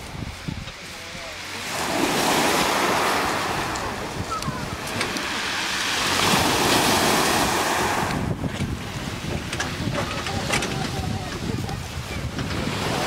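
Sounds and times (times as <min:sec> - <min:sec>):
waves washing onto pebbles: 0:00.0 - 0:13.0
wind buffeting microphone: 0:00.0 - 0:13.0.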